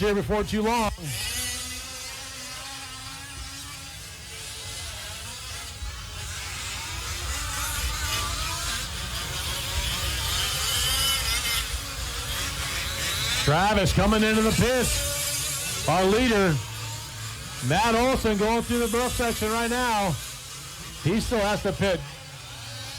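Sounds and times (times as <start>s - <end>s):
small two-stroke engines buzzing: 0.0s - 22.9s.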